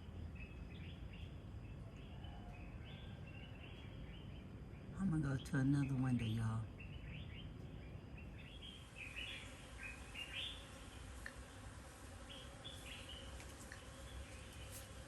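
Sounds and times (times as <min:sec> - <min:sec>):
birds chirping faintly: 0:00.0 - 0:15.0
low background noise: 0:00.0 - 0:15.0.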